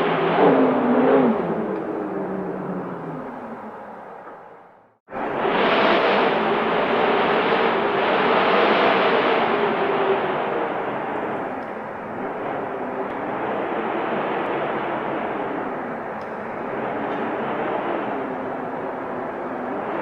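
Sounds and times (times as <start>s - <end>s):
wind blowing: 0.0s - 20.0s.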